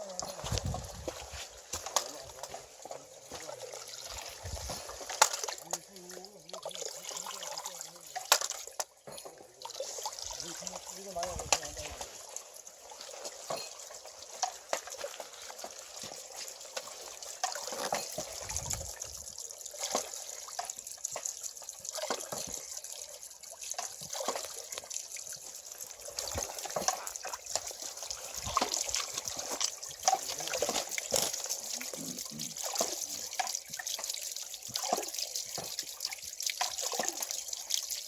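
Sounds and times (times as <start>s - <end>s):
water drips and spatters: 0.0s - 38.0s
water wheel splashing: 0.0s - 38.0s.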